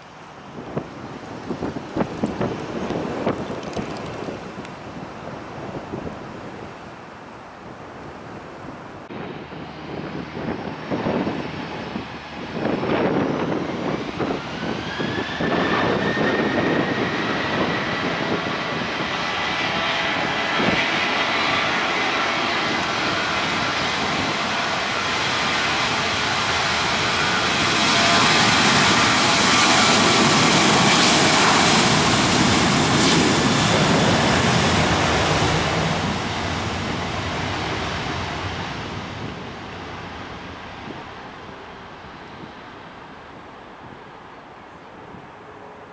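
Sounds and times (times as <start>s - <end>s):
jet noise of takeoff roll: 0.0s - 45.9s.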